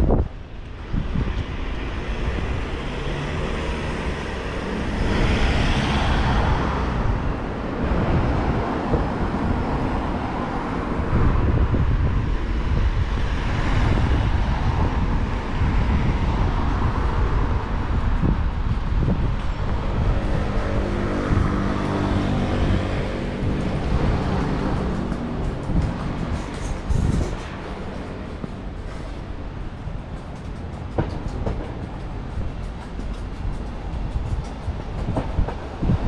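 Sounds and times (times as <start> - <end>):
road traffic driving past: 0.0 - 36.0
wind rumbling on microphone: 0.0 - 36.0.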